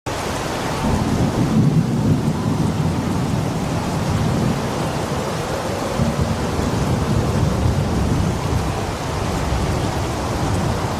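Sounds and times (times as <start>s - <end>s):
rain hissing: 0.1s - 10.9s
rolling thunder: 0.2s - 10.9s.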